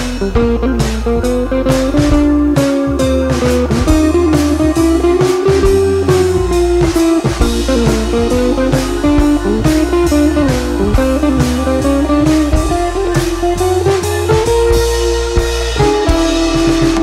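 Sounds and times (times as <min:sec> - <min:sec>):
instrumental music with beat: 0:00.0 - 0:17.0.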